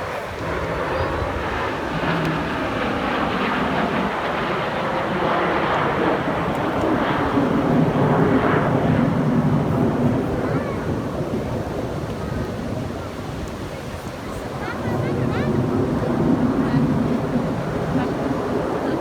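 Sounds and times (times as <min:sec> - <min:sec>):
aircraft engine roar: 0:00.0 - 0:19.0.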